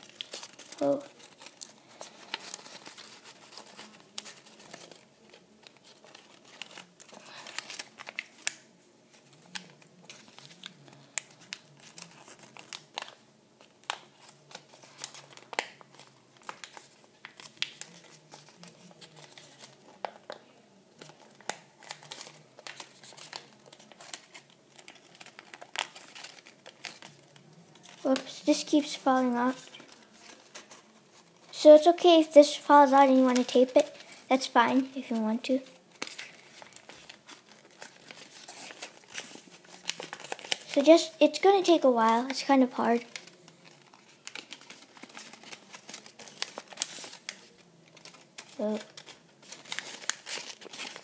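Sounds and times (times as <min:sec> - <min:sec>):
paper crinkling and crackling: 0:00.0 - 0:51.0.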